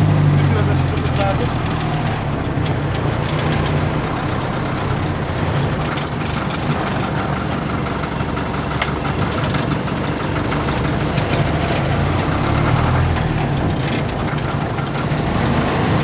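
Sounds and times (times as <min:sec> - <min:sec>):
fire truck engine running: 0:00.0 - 0:16.0
sharp clicks and rattles: 0:00.4 - 0:16.0.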